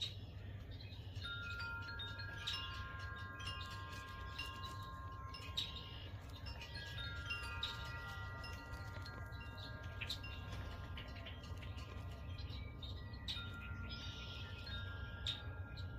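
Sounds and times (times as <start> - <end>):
wind chime ringing: 0.0 - 15.9.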